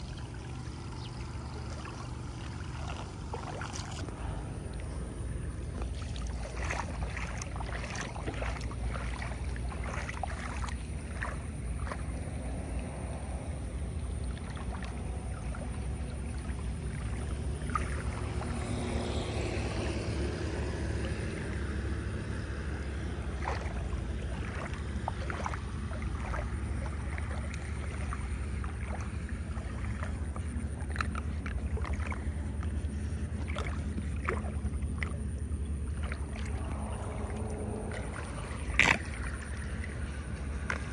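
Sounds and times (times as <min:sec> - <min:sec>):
floodwater rushing down a drain: 0:00.0 - 0:40.9
foot splashing in water: 0:00.0 - 0:40.9.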